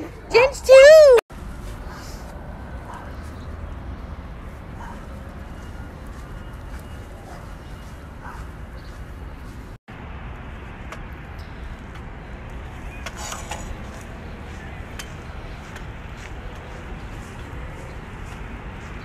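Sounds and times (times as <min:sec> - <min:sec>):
steady low rumble: 0:01.3 - 0:19.0.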